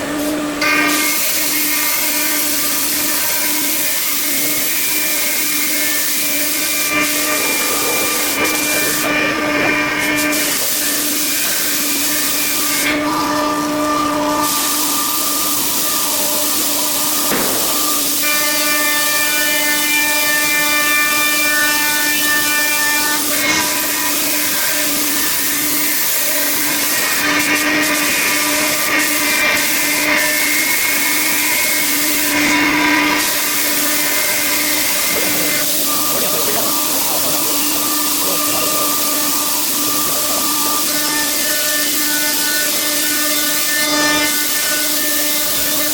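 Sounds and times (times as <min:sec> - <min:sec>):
machine whine: 0:00.0 - 0:45.9
rushing air hiss: 0:00.1 - 0:13.0, 0:14.4 - 0:22.0, 0:23.0 - 0:43.7.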